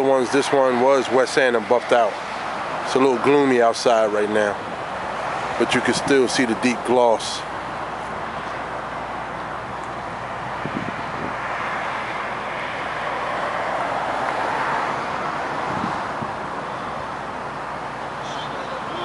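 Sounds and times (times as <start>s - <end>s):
passing vehicle rush: 0.0s - 19.0s.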